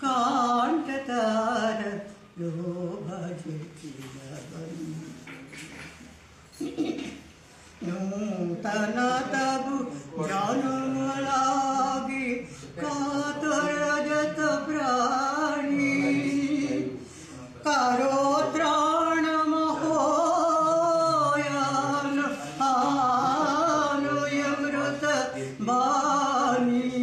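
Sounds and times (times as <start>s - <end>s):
person singing unaccompanied: 0.0s - 5.2s, 7.8s - 17.0s, 17.6s - 27.0s.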